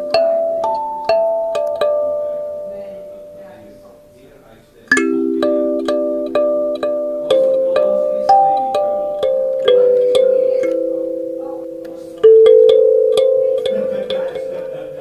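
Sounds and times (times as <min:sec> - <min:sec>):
slow bell-like melody: 0:00.0 - 0:04.1, 0:04.9 - 0:15.0.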